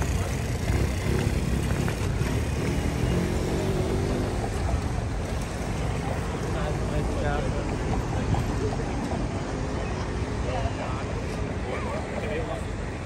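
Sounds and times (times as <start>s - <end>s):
low city traffic rumble: 0.0s - 13.0s
vehicle engine hum: 0.0s - 13.0s.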